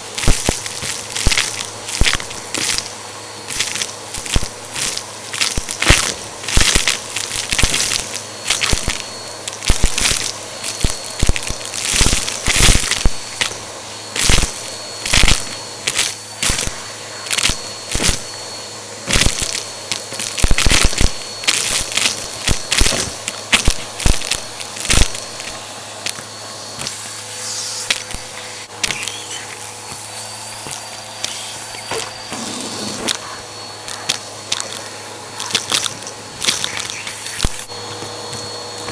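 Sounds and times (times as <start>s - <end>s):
crunchy debris crackling: 0.0s - 18.4s, 19.0s - 26.9s, 27.9s - 37.8s
vacuum cleaner motor: 0.0s - 38.9s.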